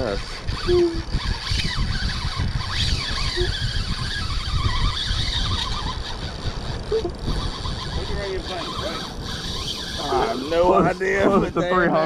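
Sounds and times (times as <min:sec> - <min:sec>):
fishing reel drag squealing: 0:00.0 - 0:11.4
wind buffeting microphone: 0:00.0 - 0:12.0.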